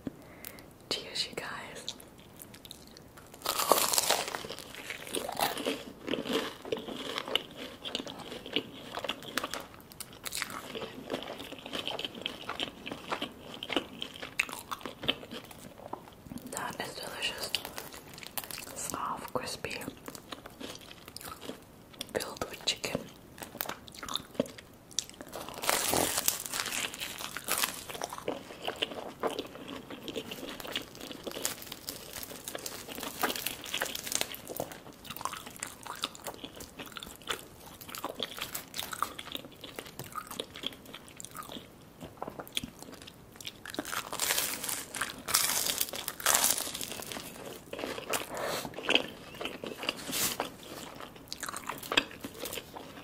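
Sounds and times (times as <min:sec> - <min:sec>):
chewing: 0:01.9 - 0:16.5, 0:19.8 - 0:22.1, 0:23.4 - 0:53.0
crunching bites of pastry: 0:02.4 - 0:16.1, 0:23.4 - 0:53.0.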